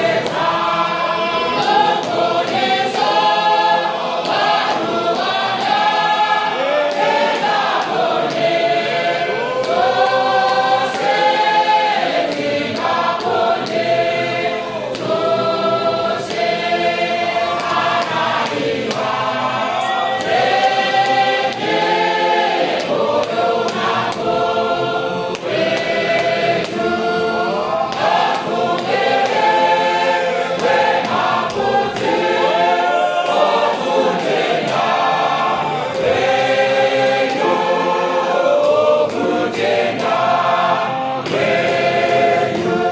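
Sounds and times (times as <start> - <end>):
congregation singing a hymn: 0.0 - 42.9.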